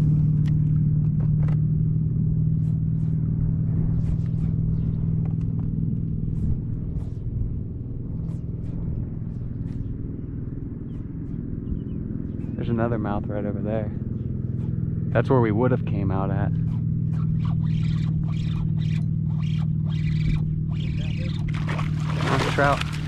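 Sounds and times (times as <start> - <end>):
outboard motor humming: 0.0 - 23.0.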